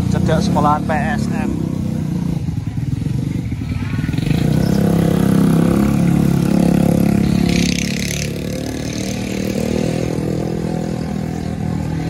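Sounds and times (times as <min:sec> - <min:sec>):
motorcycles passing: 0:00.0 - 0:12.0.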